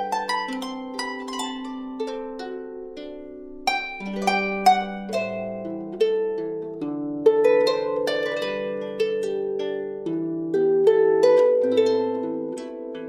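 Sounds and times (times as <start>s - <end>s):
plucked string instrument melody: 0.0s - 13.0s.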